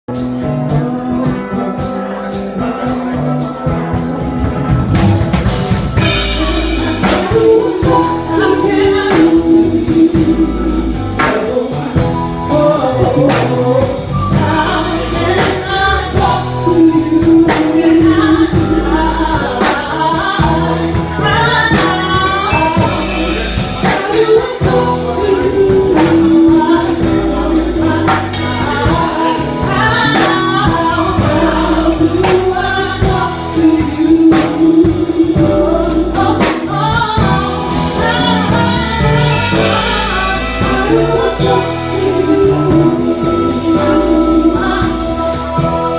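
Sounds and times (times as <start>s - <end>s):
band playing with drums and bass: 0.1s - 45.9s
people singing: 0.2s - 45.9s.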